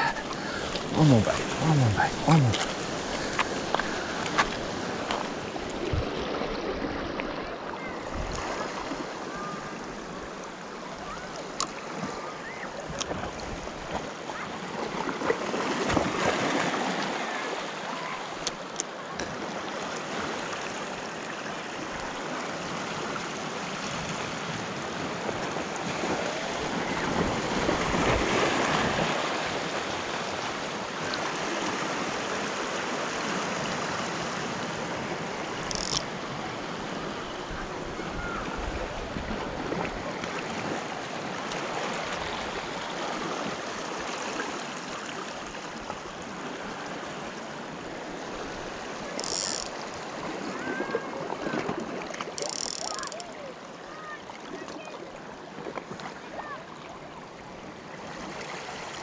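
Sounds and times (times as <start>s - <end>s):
small waves sloshing against rock: 0.0s - 59.0s.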